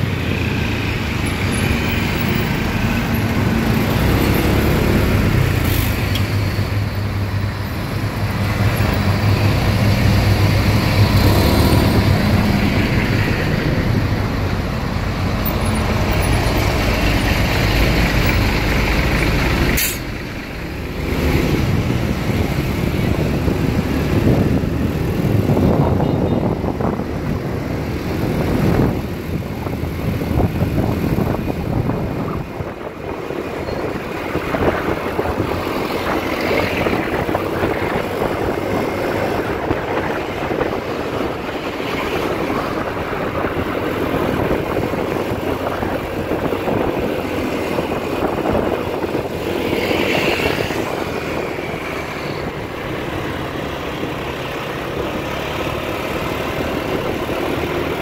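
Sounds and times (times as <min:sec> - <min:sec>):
road and wind noise: 0:00.0 - 0:58.0
surrounding traffic: 0:00.0 - 0:58.0.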